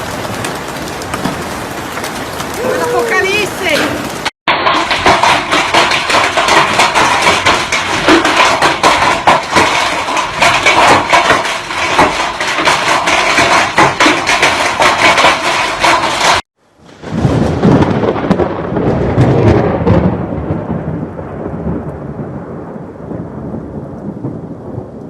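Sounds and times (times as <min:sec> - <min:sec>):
hailstones pelting hard surfaces: 0:00.0 - 0:21.5.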